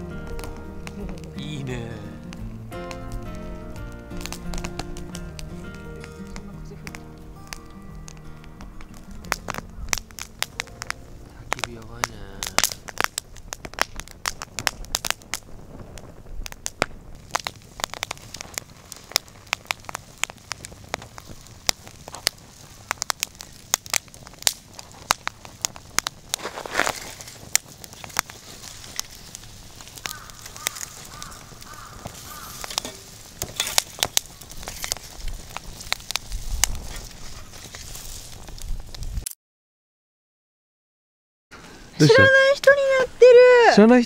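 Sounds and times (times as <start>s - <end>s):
soft hiss of flame: 0.0s - 39.2s
wood fire crackling and popping: 0.0s - 39.4s, 41.8s - 44.0s.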